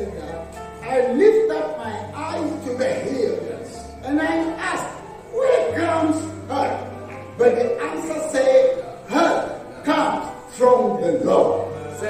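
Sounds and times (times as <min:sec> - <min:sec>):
person speaking in a hall: 0:00.0 - 0:12.0.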